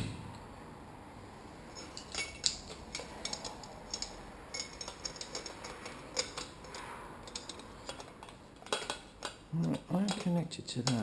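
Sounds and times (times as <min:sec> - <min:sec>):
metal tools clinking: 0:01.7 - 0:11.0.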